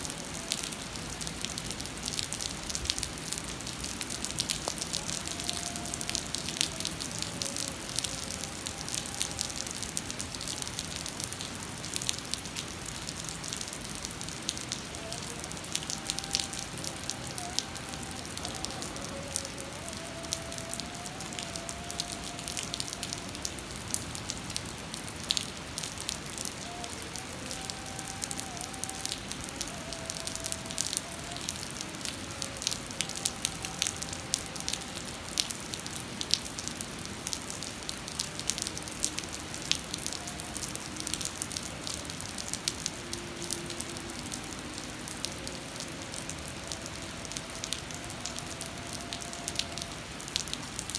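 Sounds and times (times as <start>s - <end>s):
heavy rain on flooded pavement: 0.0s - 50.9s.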